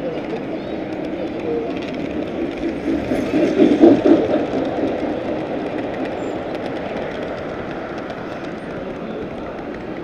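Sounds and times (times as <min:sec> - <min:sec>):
model train wheels rumbling on track: 0:00.0 - 0:10.0.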